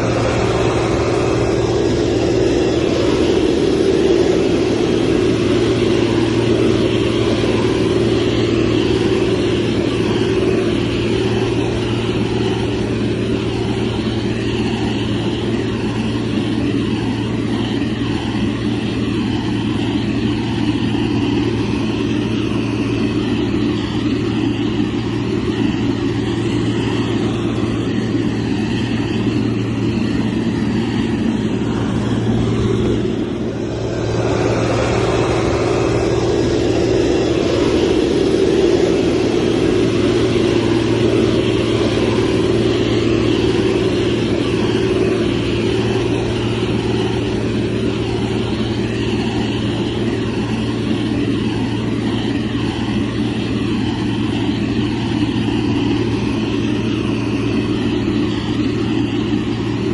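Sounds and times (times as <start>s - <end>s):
diesel engine of earthmoving machine: 0.0s - 59.9s.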